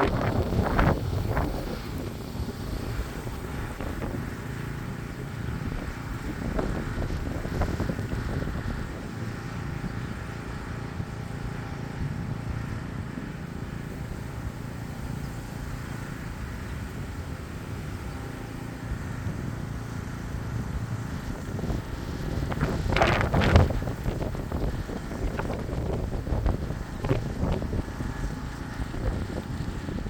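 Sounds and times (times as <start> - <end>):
lawn mower engine running: 0.0 - 30.0.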